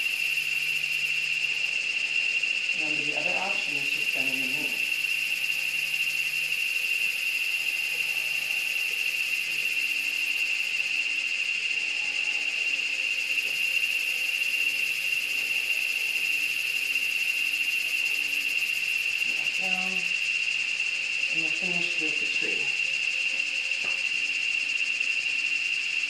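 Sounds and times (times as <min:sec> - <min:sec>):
shrill insect chorus: 0:00.0 - 0:26.0.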